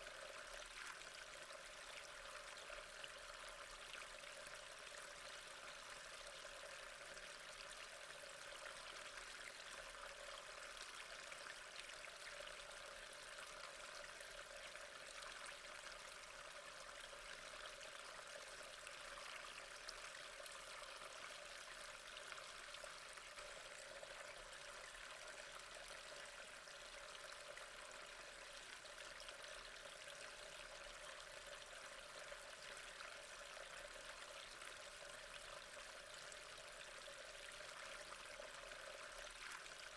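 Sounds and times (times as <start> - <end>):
faint trickle of flowing water: 0.0 - 39.9.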